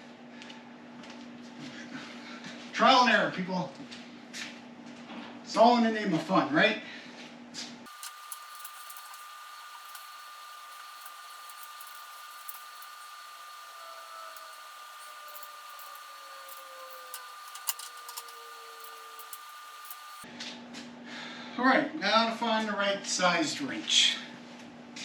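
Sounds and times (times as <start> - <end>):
mechanical hum with high whine: 0.0 - 25.0.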